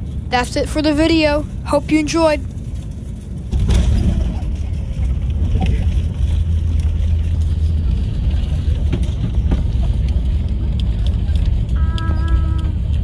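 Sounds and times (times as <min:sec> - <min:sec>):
airliner low rumble: 0:00.0 - 0:13.0.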